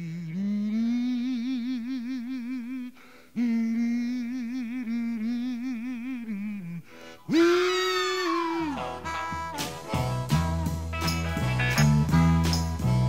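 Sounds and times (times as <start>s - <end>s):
man humming: 0.0s - 12.3s.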